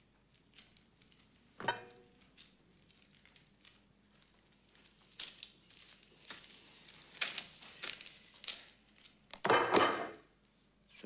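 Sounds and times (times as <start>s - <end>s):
paper rustling: 0.3s - 9.4s.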